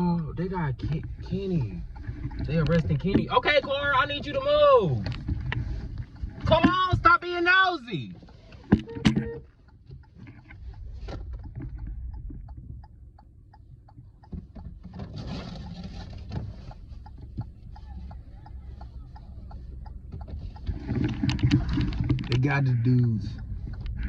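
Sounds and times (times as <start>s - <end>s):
car rumble inside cabin: 0.0s - 24.0s.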